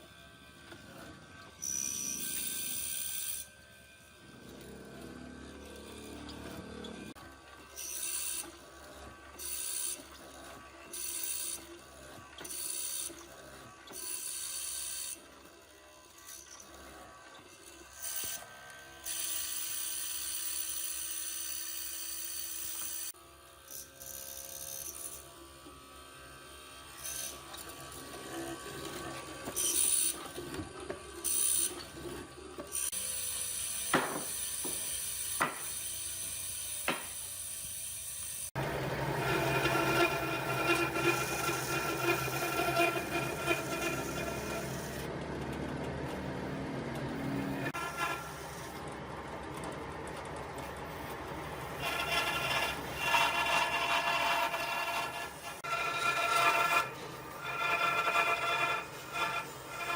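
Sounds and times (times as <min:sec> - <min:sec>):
power tools working wood: 0:00.0 - 0:59.9.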